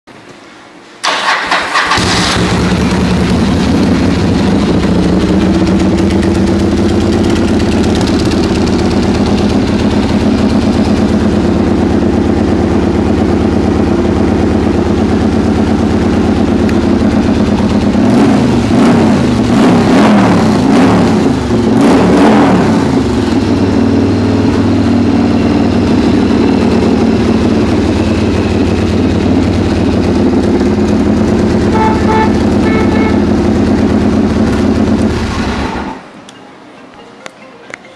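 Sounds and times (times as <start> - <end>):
motorcycle engine idling and revving: 1.2 - 36.0.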